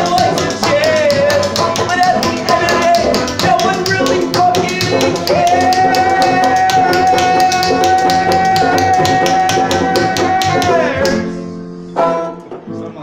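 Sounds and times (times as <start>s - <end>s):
banjo: 0.0s - 11.3s
quick tapping beat: 0.0s - 11.3s.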